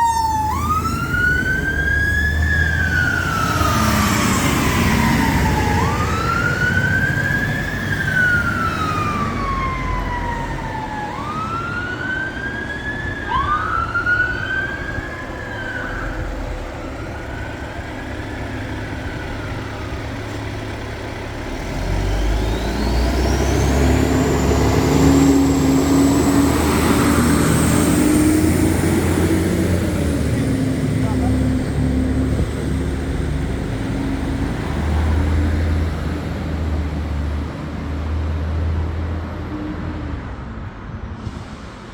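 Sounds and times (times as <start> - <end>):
fire engine sirens wailing: 0.0 - 40.2
fire engine engine running: 0.0 - 41.9.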